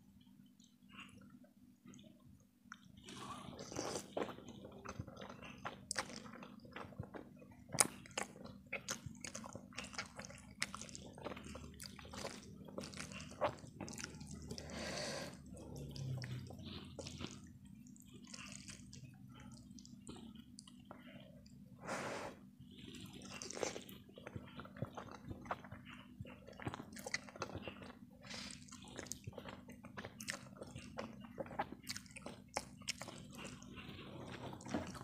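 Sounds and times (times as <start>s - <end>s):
wet chewing of noodles: 2.7s - 35.0s.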